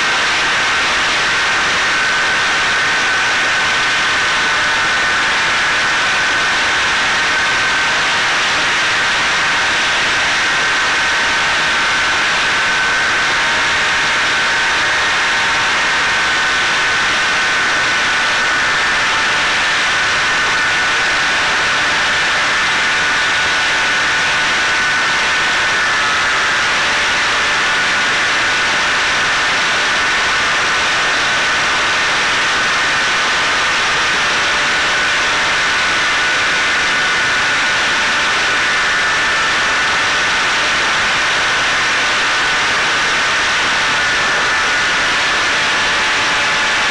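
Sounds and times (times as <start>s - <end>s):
electric motor and propeller whining: 0.0s - 46.9s.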